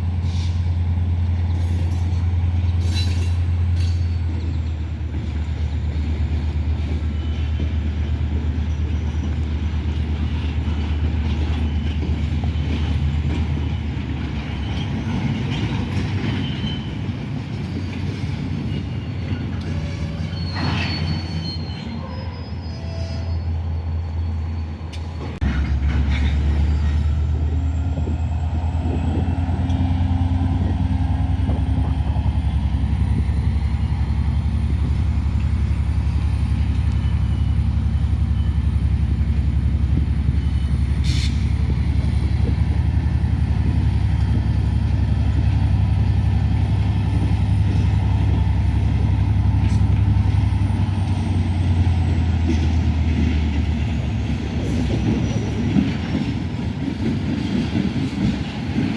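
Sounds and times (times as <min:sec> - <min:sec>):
locomotive engine rumble: 0:00.0 - 0:58.9.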